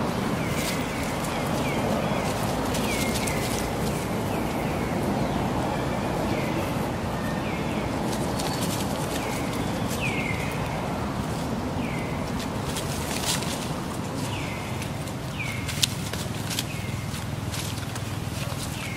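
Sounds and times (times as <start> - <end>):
steady outdoor hiss: 0.0 - 18.9.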